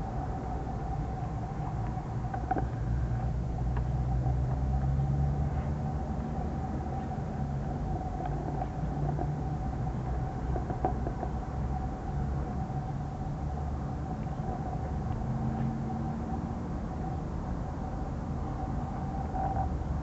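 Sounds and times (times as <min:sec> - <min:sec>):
constant whine: 0:00.0 - 0:20.0
low mechanical hum: 0:00.0 - 0:20.0.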